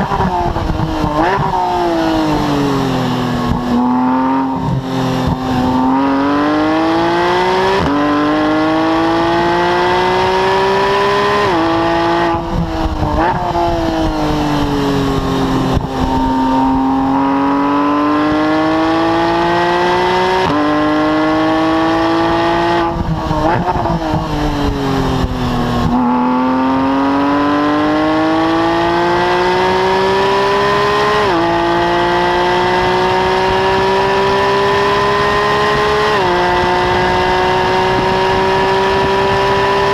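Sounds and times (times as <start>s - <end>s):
car engine at full throttle: 0.0s - 39.9s.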